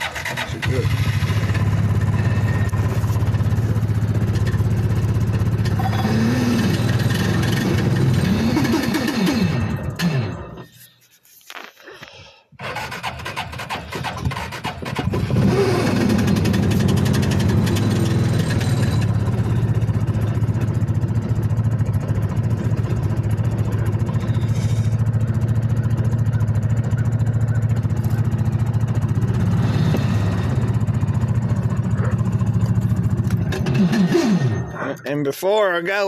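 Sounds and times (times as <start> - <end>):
engine idling: 0.0 - 10.9, 12.6 - 35.1.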